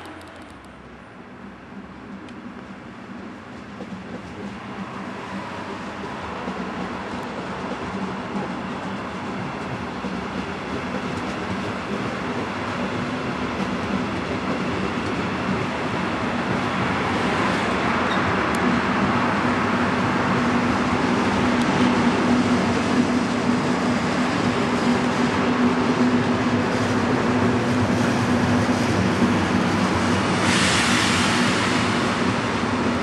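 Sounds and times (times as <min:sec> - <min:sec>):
diesel locomotive engine drone: 0:00.0 - 0:33.0
train rolling noise: 0:00.0 - 0:33.0.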